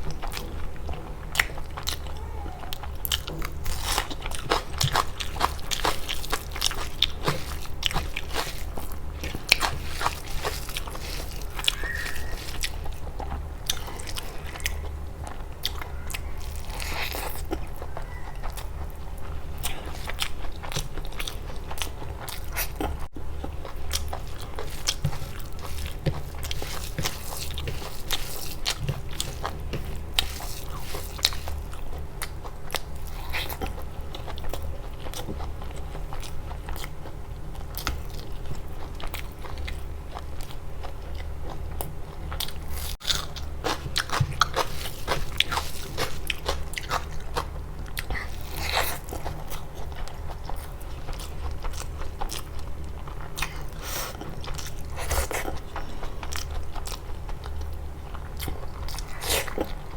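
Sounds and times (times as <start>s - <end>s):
crunchy chewing: 0.0s - 59.9s
faint low hum: 0.0s - 59.9s.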